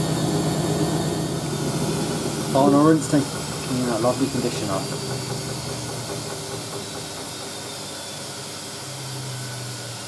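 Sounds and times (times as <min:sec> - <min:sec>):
washing machine drum whirring: 0:00.0 - 0:10.0.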